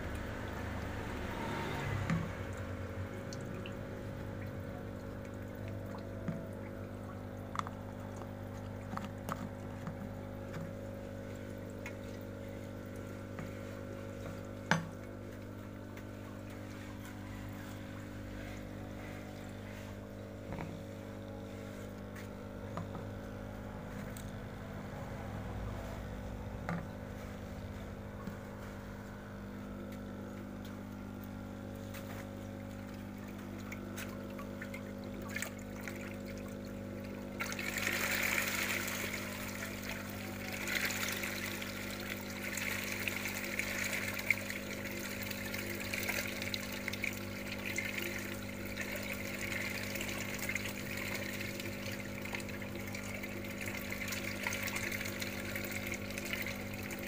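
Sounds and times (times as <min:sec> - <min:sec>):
electric air pump humming: 0:00.0 - 0:57.0
water bubbling from air tubes: 0:00.0 - 0:57.0.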